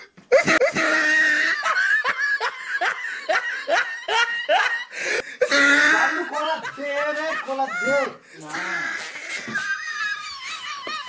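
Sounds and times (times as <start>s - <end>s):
person laughing: 0.3s - 11.0s.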